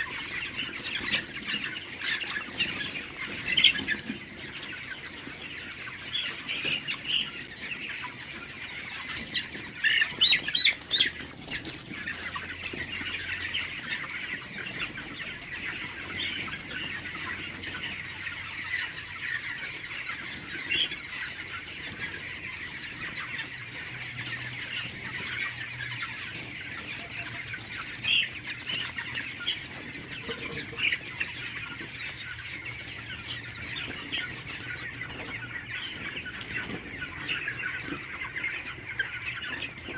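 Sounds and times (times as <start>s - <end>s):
chickens clucking and calling: 0.0s - 39.9s.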